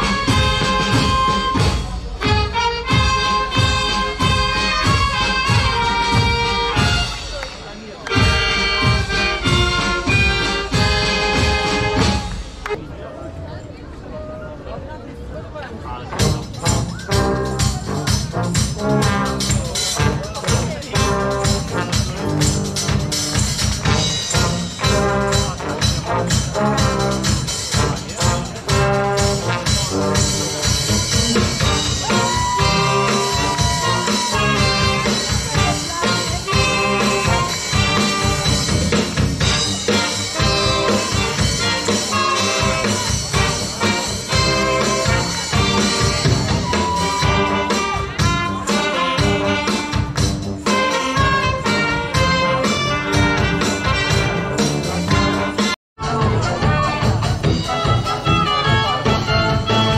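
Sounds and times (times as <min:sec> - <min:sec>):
brass band playing: 0:00.0 - 0:12.8, 0:16.1 - 0:59.9.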